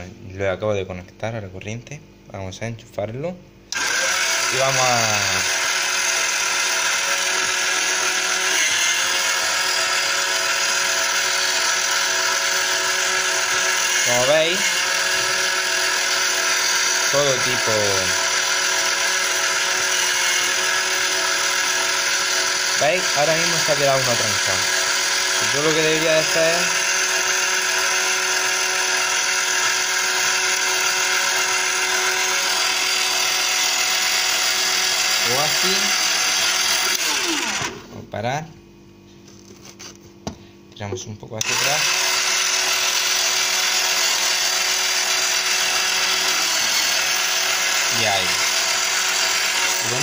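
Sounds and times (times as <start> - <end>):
bean sheller motor whirring: 3.7 - 37.9, 41.4 - 50.0.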